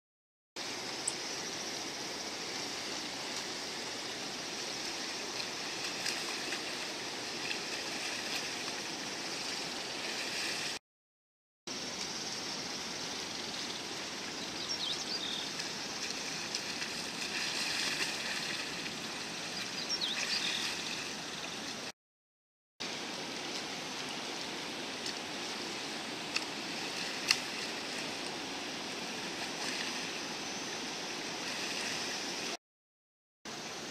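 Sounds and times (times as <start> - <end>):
rushing water noise: 0.6 - 10.8, 11.7 - 21.9, 22.8 - 32.6.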